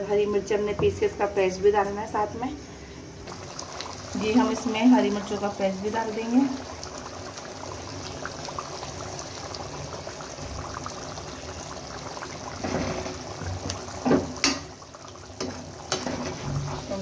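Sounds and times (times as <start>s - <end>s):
gravy bubbling in a wok: 2.7s - 17.0s.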